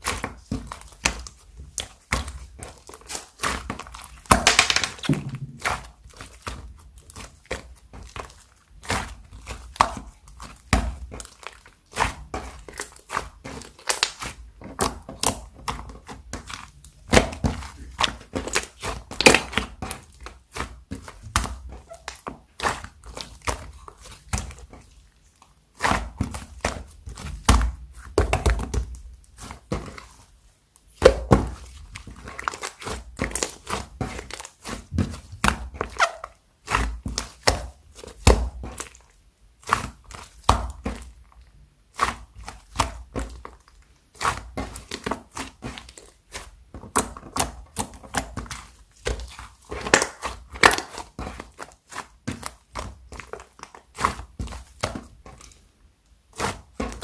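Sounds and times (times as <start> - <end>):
slime popping and crackling: 0.0 - 24.7, 30.9 - 41.2, 41.9 - 55.6.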